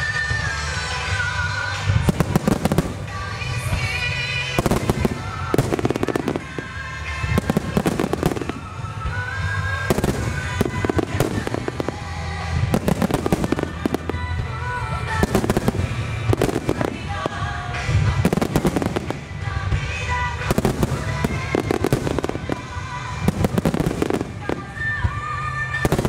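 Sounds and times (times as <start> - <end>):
music: 0.0 - 26.0
fireworks bangs and crackles: 0.1 - 26.0.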